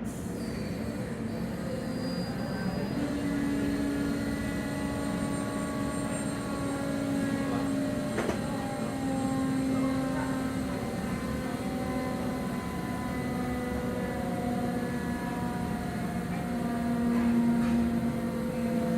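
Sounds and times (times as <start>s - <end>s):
machinery drone with hum: 0.0s - 18.9s.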